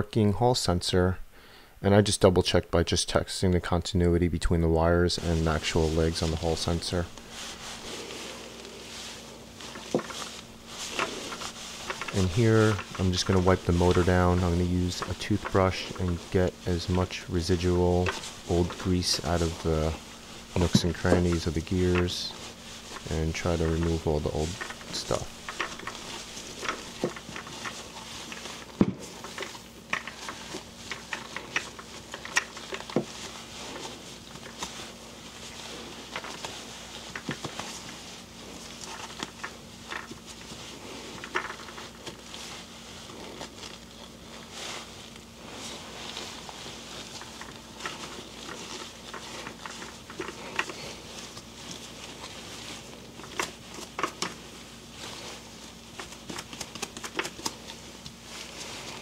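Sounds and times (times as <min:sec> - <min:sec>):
cloth rubbing and rustling: 0:05.0 - 0:59.0.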